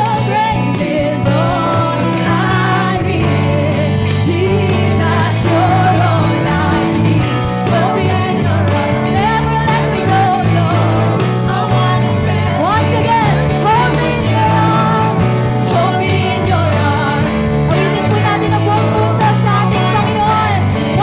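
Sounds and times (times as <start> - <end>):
backing singers: 0.0 - 21.0
live band playing a song: 0.0 - 21.0
woman singing lead vocal: 0.0 - 21.0.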